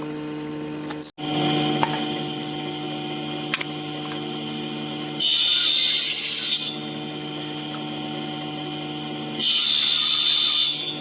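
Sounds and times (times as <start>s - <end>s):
electric power tool humming: 1.2s - 11.0s.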